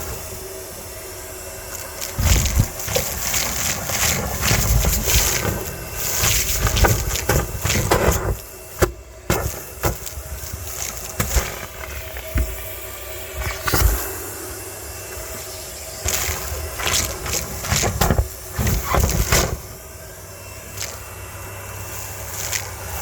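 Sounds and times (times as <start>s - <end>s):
vacuum hose sucking: 0.0s - 23.0s.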